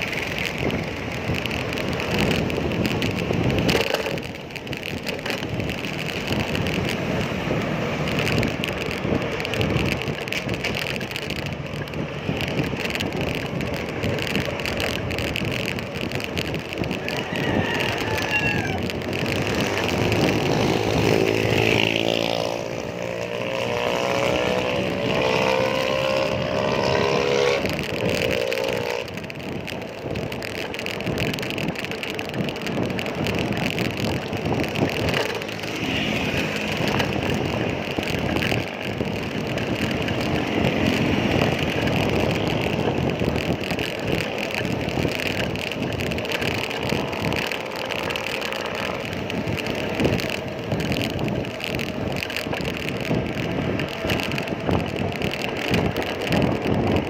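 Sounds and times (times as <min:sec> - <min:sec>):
rush of traffic: 0:00.0 - 0:57.0
vehicle engine humming: 0:00.0 - 0:57.0
wind noise: 0:00.0 - 0:57.0.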